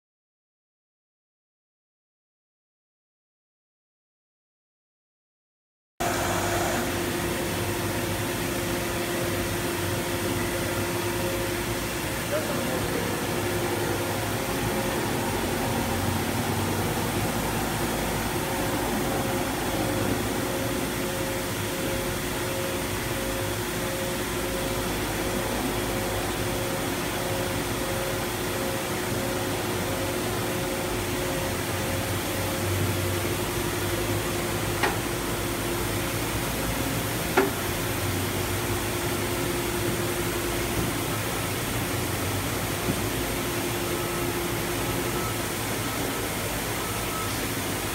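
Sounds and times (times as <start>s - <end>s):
ventilation and machinery hum: 6.0s - 47.9s.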